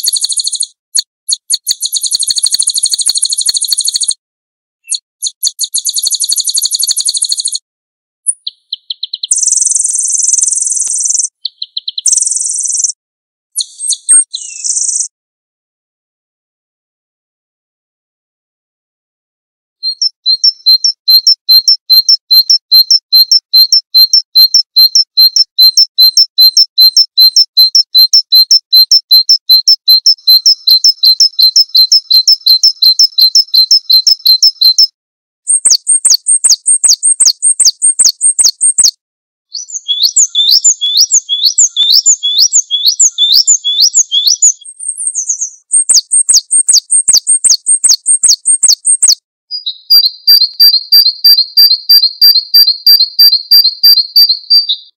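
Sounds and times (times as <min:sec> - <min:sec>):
songbird chirps: 0:00.0 - 0:04.2, 0:04.8 - 0:07.6, 0:08.2 - 0:13.0, 0:13.6 - 0:15.1, 0:19.8 - 0:34.9, 0:35.5 - 0:54.9.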